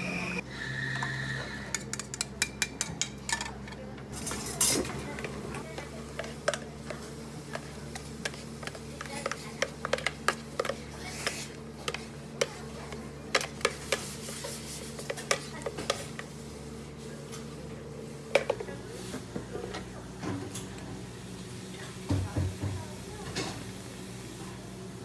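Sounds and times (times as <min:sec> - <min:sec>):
cafe machines humming: 0:00.0 - 0:25.0.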